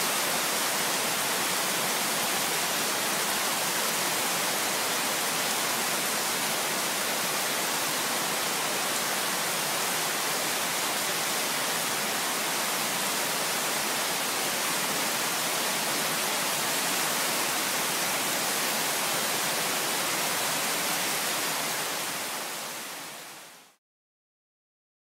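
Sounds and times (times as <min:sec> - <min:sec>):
heavy rain on trees and ground: 0:00.0 - 0:23.8.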